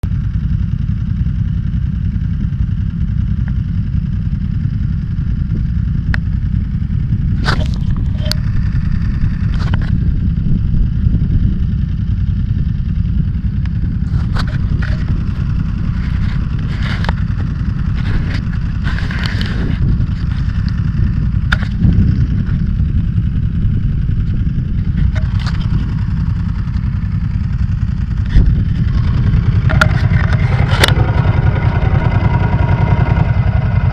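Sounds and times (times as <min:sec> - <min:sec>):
motorcycle engine running: 0:00.0 - 0:33.9
wind rumble on microphone: 0:00.0 - 0:33.9.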